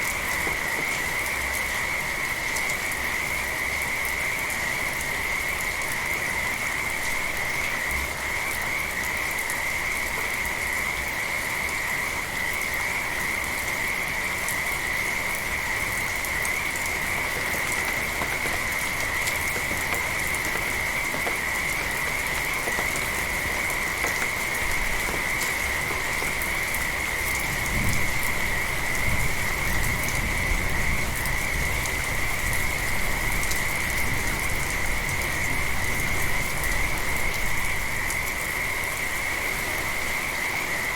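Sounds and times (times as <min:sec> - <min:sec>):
light rain: 0:00.0 - 0:40.9.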